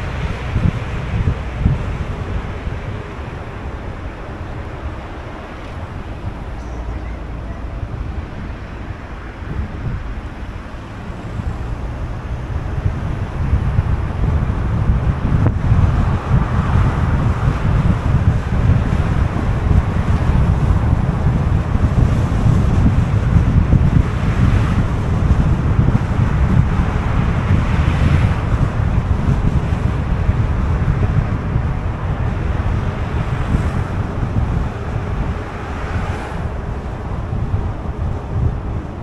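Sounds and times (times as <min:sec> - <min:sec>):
car road and wind noise: 0:00.0 - 0:39.0
wind buffeting microphone: 0:00.0 - 0:39.0.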